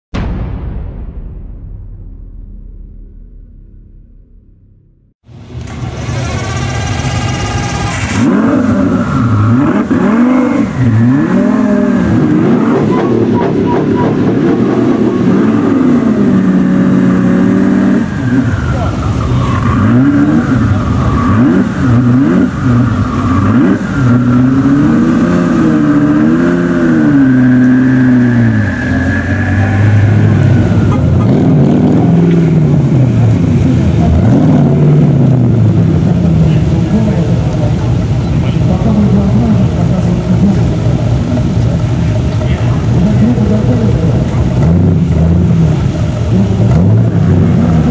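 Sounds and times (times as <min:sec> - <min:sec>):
high whine: 0:00.1 - 0:47.9
car engine revving: 0:02.6 - 0:47.9.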